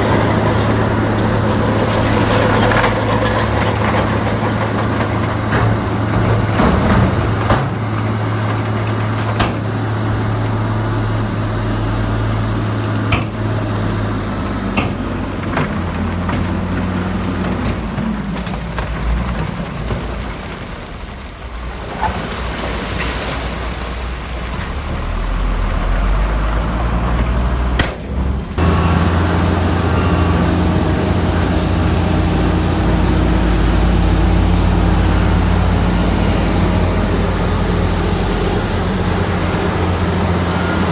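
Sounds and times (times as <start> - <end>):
heavy diesel machinery engine: 0.0 - 40.9.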